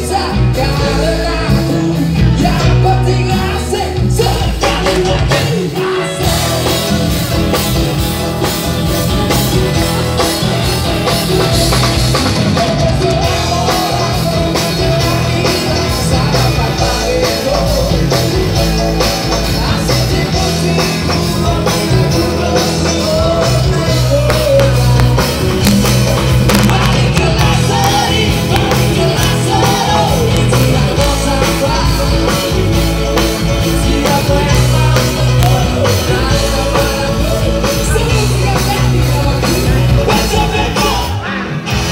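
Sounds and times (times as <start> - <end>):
drum kit beat: 0.0 - 41.9
electric guitars: 0.0 - 41.9
person singing: 0.0 - 41.9.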